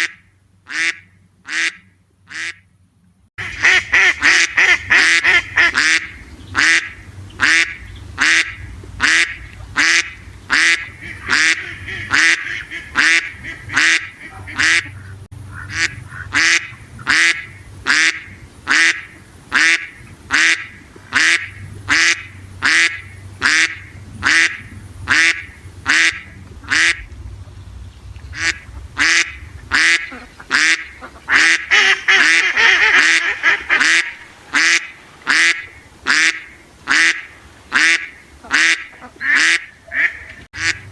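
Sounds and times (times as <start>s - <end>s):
duck quacking: 0.0s - 2.6s, 3.4s - 27.1s, 28.3s - 40.9s.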